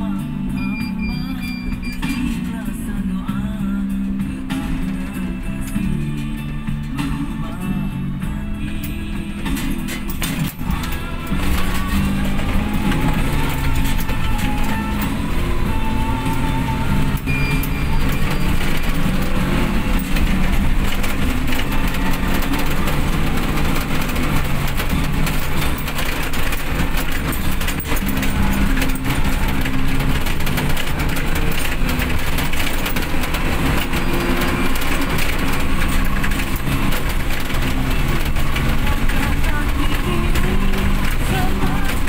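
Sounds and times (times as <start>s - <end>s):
tyres on wet road: 0.0s - 42.0s
vehicle engine inside cabin: 0.0s - 42.0s.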